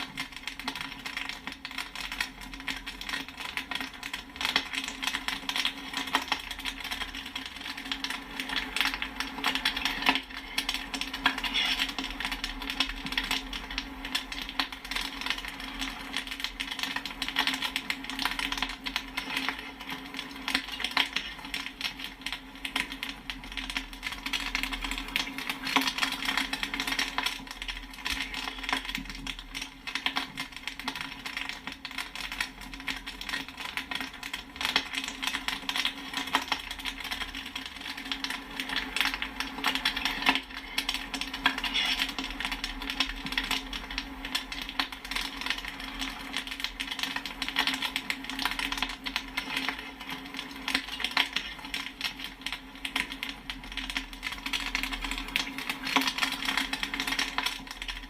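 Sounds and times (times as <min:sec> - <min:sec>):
popcorn popping in metal pan: 0:00.0 - 0:58.0.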